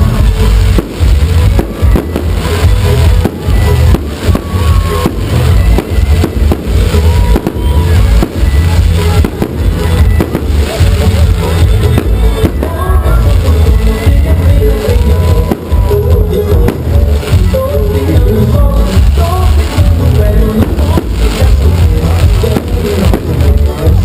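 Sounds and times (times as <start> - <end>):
firecrackers banging: 0.0 - 24.0
music with heavy bass beat: 0.0 - 24.0.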